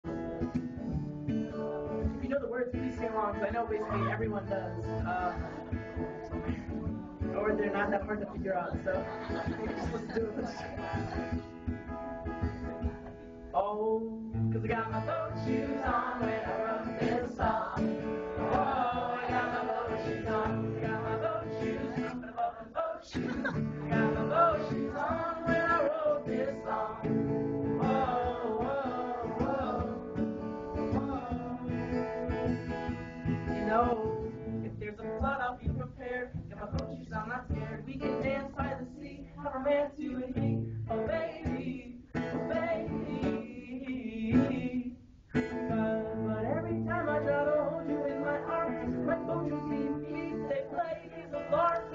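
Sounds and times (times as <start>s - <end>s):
acoustic guitar strumming: 0.0s - 13.6s, 14.2s - 51.9s
man singing: 1.5s - 10.8s, 13.5s - 32.3s, 33.5s - 51.9s.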